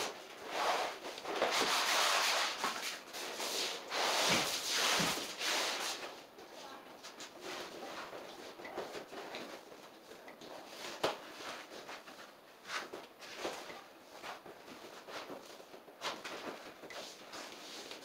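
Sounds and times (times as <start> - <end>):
vinyl flooring scraping and rustling: 0.0 - 18.0.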